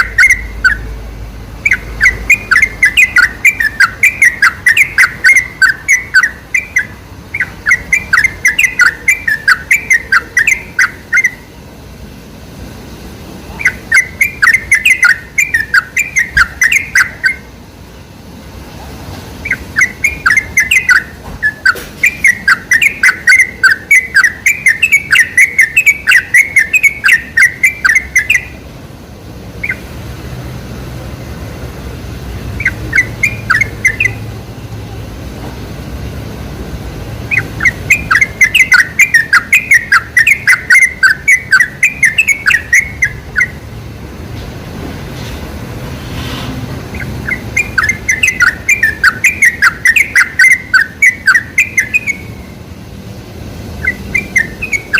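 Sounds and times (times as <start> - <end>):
bulbul song rapid chattering: 0.0 - 44.8, 45.9 - 54.9.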